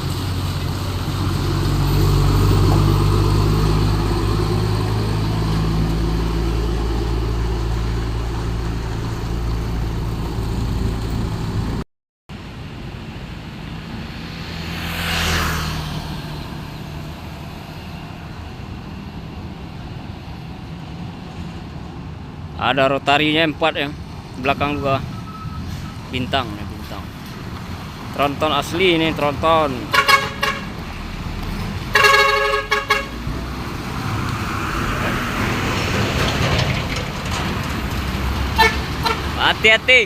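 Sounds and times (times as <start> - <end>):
vehicle passing by: 0.0 - 11.8, 12.8 - 22.4, 25.0 - 40.0
traffic hum: 0.0 - 40.0.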